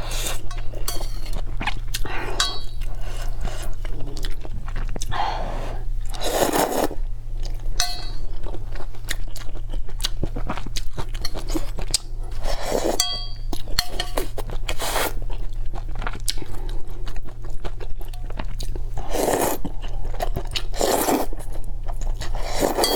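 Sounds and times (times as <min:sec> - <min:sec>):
chewing crunchy seafood: 0:00.0 - 0:22.9
steady low hum: 0:00.0 - 0:22.9.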